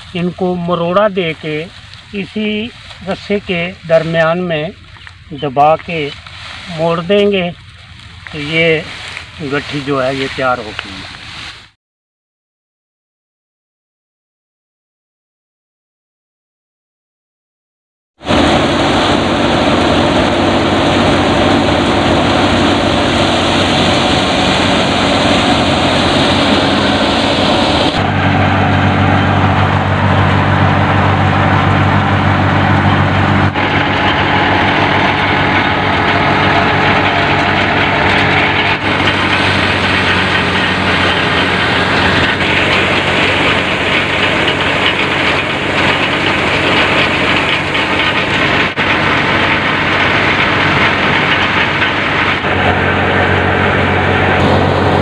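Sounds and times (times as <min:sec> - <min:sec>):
thresher churning: 0:00.0 - 0:11.6, 0:18.2 - 0:55.0
tractor engine drone: 0:00.0 - 0:11.6, 0:18.2 - 0:55.0.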